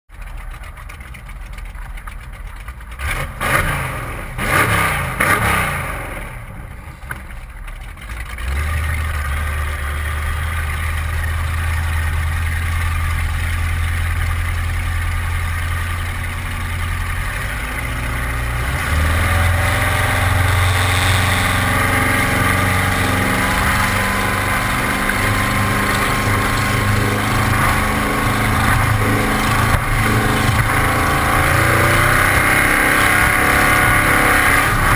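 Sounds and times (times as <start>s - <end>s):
boat engine running: 0.1s - 5.2s, 6.6s - 34.9s.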